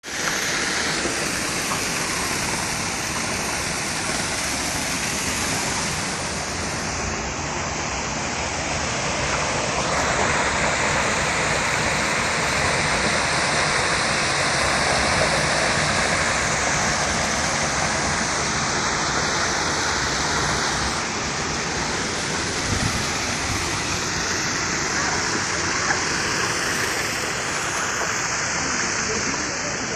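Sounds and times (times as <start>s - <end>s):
waterfall pouring into pool: 0.0s - 29.9s.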